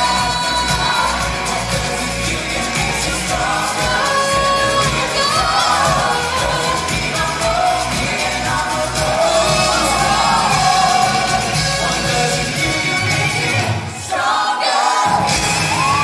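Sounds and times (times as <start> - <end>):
pop music with singing: 0.0 - 16.0.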